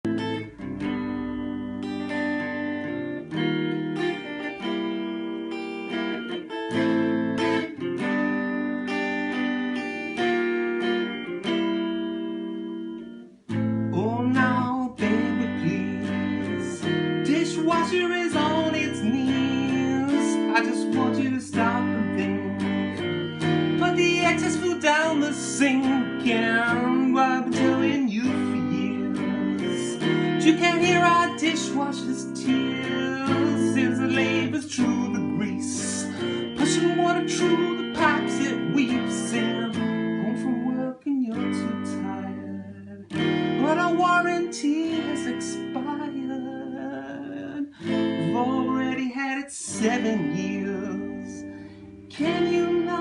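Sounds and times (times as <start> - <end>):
acoustic guitar chords strummed: 0.0 - 53.0.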